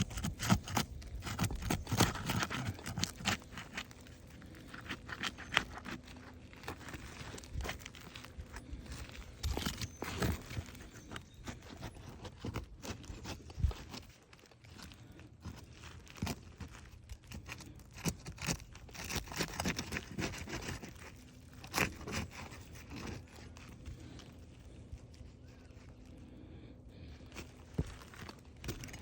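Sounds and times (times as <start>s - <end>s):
roof shingle scraping and tearing: 0.0s - 29.0s.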